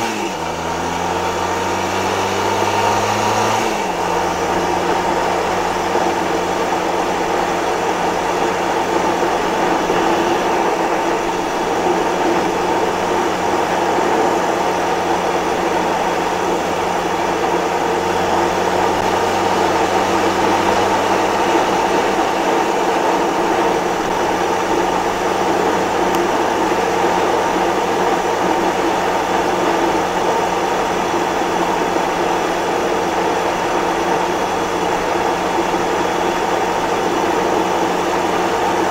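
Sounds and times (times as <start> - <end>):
motorcycle engine drone: 0.0 - 38.9
wind and road noise: 0.0 - 38.9.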